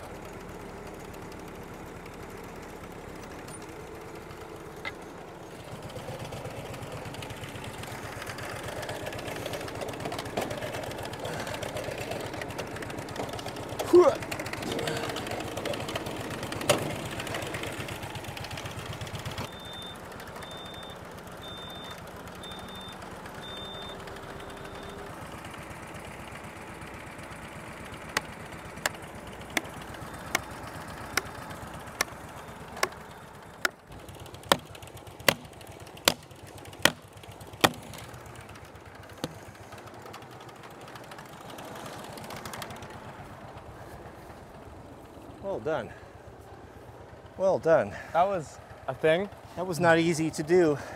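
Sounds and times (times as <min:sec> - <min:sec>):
petrol engine running: 0:00.0 - 0:50.9.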